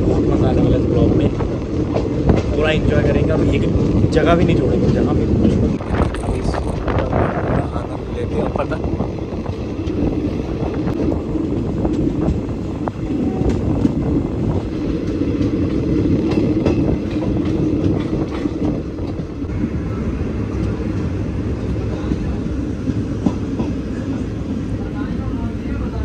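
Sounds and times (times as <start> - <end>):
passenger train rumbling: 0.0 - 26.0.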